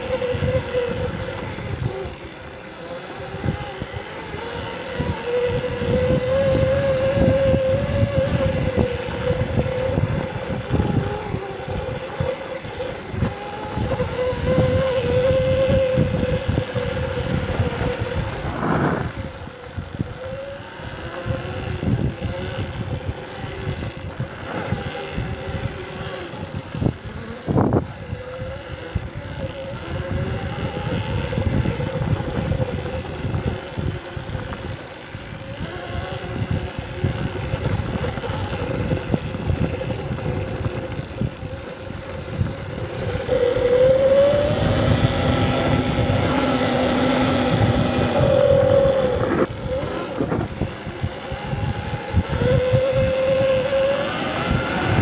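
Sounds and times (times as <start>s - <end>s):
bike bouncing on terrain: 0.0s - 55.0s
electric dirt bike motor whine: 0.0s - 55.0s.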